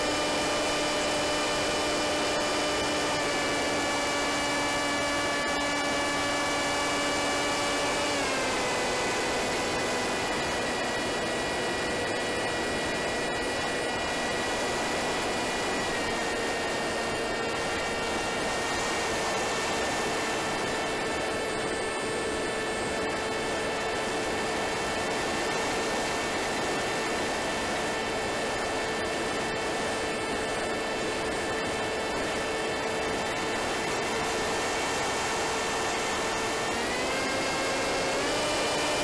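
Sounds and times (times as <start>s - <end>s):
electric motor and propeller whine: 0.0s - 39.0s.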